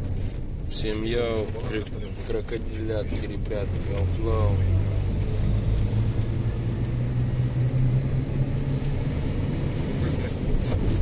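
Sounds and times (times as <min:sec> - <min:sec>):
car interior engine and road noise: 0:00.0 - 0:11.0.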